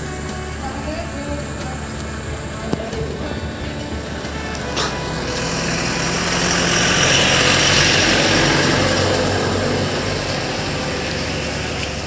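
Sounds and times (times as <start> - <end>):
low steady hum: 0.0 - 12.0
rain falling: 0.0 - 12.0.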